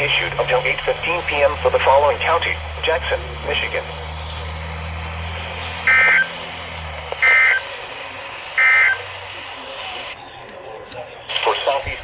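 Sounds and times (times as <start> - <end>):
faint radio hiss and hum: 0.0 - 12.0.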